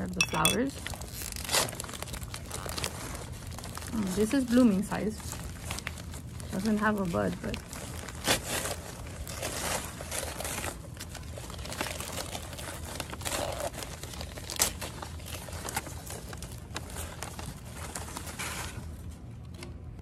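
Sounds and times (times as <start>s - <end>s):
paper rustling and crinkling: 0.4s - 20.0s.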